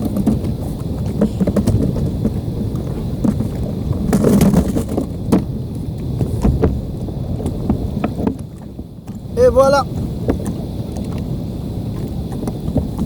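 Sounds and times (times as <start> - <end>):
water moving around kayak: 0.0 - 13.0
wind rumbling on microphone: 0.0 - 13.0.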